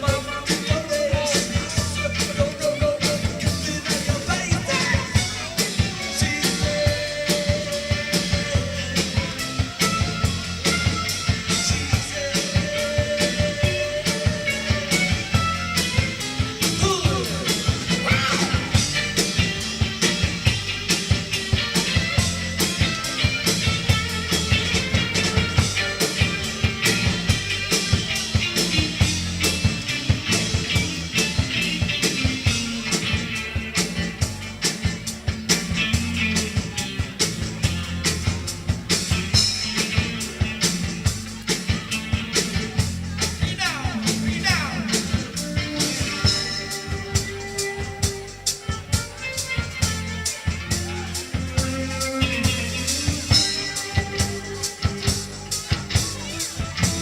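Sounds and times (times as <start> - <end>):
fast drum beat: 0.0 - 57.0
heavy bass line: 0.0 - 57.0
live rock band playing: 0.0 - 57.0.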